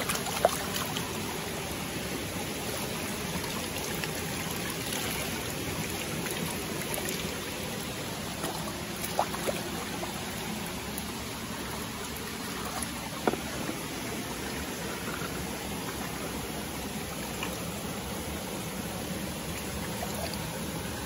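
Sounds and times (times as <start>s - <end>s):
river flowing: 0.0s - 21.0s.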